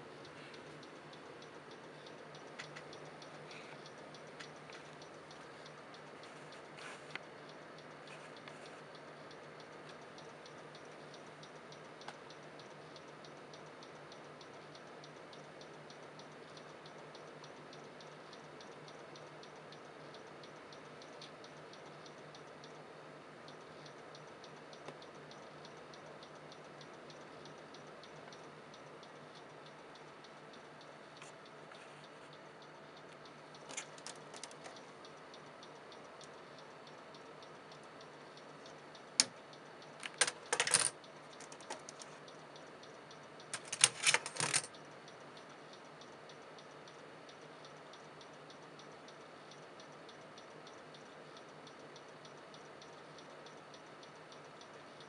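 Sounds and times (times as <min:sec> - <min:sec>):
hard drive ticking: 0:00.0 - 0:55.0
steady low hum: 0:00.0 - 0:55.0.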